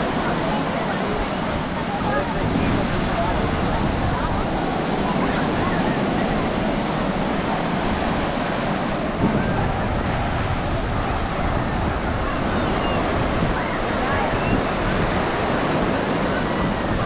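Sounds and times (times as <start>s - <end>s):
ocean surf washing onto beach: 0.0s - 17.0s.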